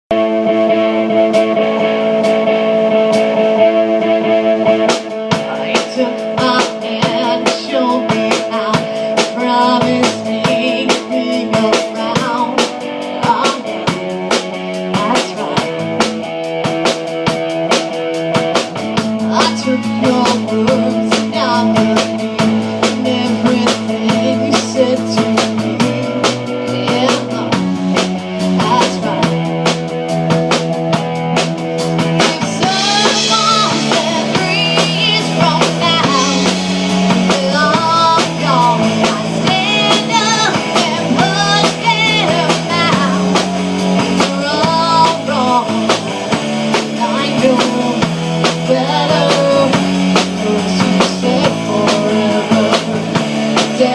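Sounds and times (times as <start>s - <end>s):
rock band playing: 0.1s - 53.9s.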